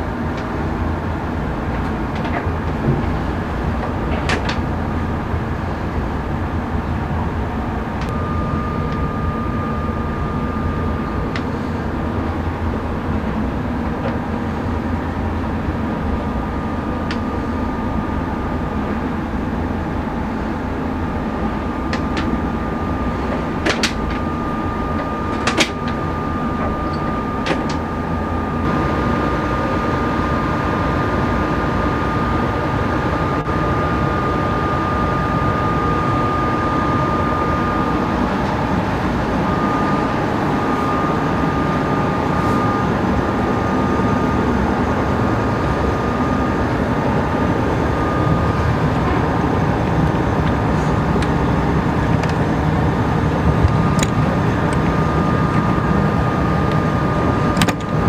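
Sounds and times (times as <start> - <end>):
engine drone: 0.0 - 58.0
thin high whine: 4.5 - 58.0.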